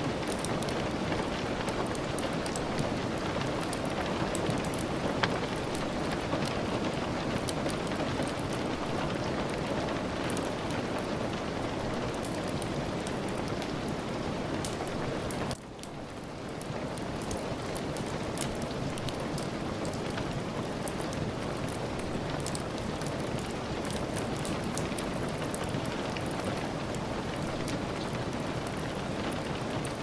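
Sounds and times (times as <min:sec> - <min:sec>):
steady rain: 0:00.0 - 0:30.0
wood fire crackling: 0:00.0 - 0:30.0.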